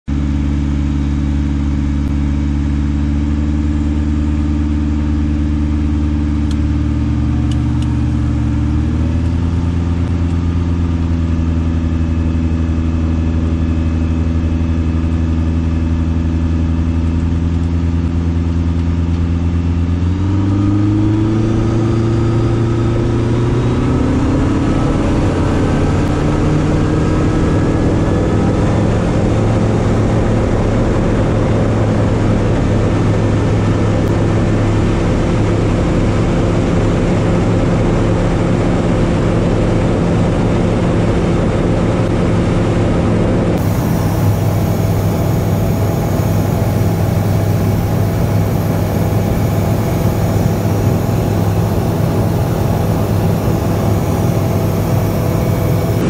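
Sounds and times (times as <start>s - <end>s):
light aircraft engine and propeller: 0.1s - 56.0s.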